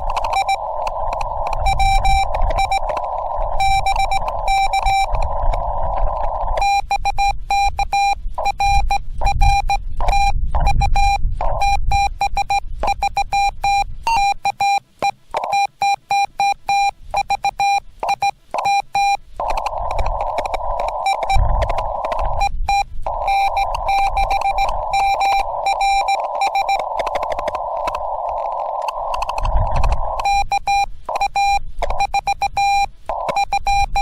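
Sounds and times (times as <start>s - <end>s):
radio band hiss: 0.0s - 15.7s, 16.3s - 34.0s
morse code sidetone beeping: 0.0s - 34.0s.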